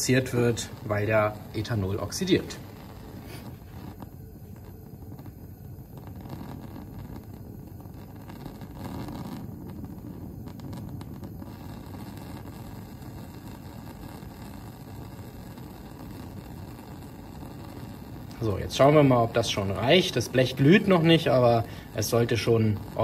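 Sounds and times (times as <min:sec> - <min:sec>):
gas burner roaring: 0:00.0 - 0:23.0.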